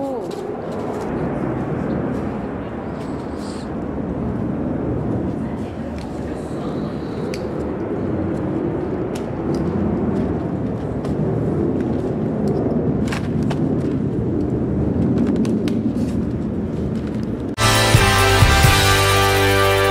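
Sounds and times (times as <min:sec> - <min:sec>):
low rumbling background noise: 0:00.0 - 0:17.6.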